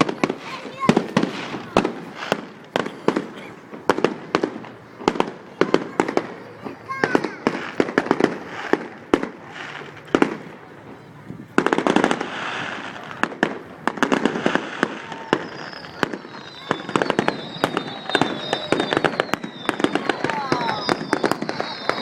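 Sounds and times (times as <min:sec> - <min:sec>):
fireworks falling whistles: 0:00.0 - 0:10.5, 0:11.6 - 0:22.0
fireworks bangs: 0:00.0 - 0:22.0
fireworks crackling: 0:00.0 - 0:22.0.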